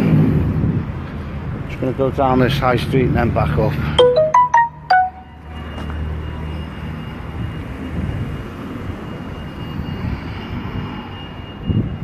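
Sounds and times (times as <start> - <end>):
low rumble of traffic: 0.0 - 4.0, 5.1 - 12.0.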